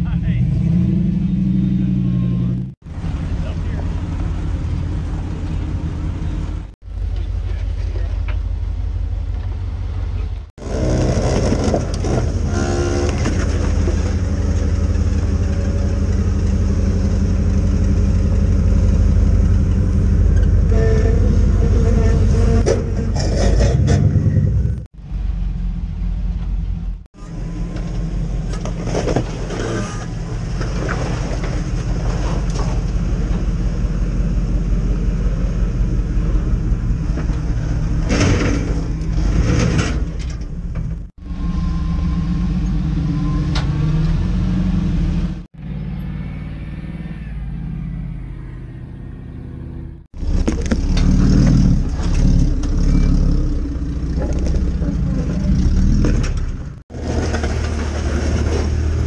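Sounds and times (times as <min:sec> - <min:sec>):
off-road engines revving: 0:00.0 - 0:59.0.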